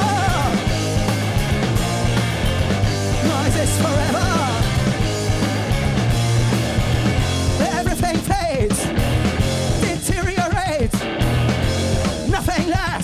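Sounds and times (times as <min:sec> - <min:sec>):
loud noise-rock band playing: 0:00.0 - 0:13.0.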